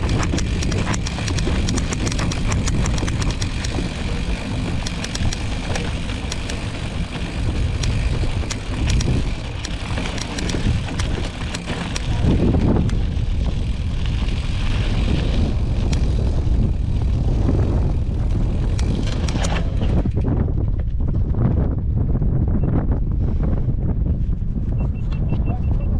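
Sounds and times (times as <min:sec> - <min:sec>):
bike tyres on gravel: 0:00.0 - 0:21.8
stones and bike clicking: 0:00.0 - 0:21.8
wind on microphone: 0:00.0 - 0:25.9.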